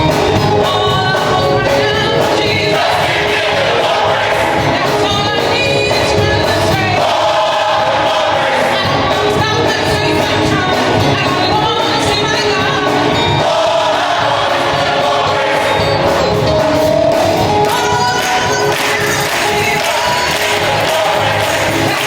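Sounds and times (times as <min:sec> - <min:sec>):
backing band: 0:00.0 - 0:22.0
gospel choir singing: 0:00.0 - 0:22.0.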